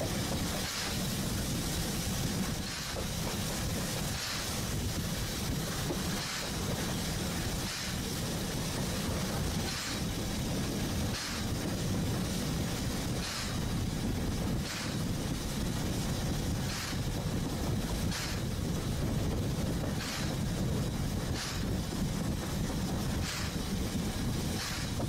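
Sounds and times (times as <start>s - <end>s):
train wheels rumbling: 0.0s - 25.0s
wheels clacking on rail joints: 0.0s - 25.0s.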